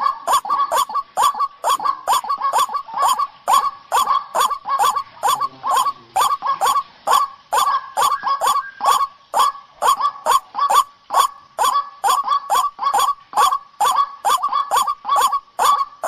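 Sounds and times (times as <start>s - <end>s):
waterhen honking calls: 0.0s - 16.0s.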